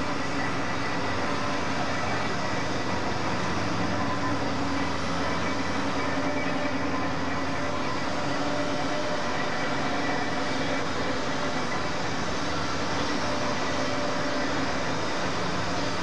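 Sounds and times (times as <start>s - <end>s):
faint whining tones: 0.0s - 16.0s
steady hum and hiss: 0.0s - 16.0s.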